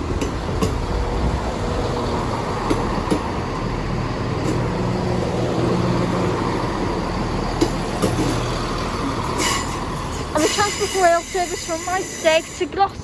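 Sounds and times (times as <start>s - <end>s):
diesel train engine humming: 0.0s - 13.0s
train wheels clicking: 0.0s - 13.0s.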